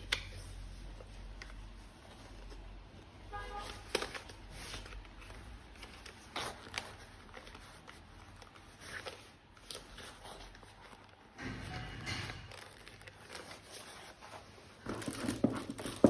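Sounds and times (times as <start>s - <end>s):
packaging rustling: 0.0s - 11.4s, 12.3s - 16.0s.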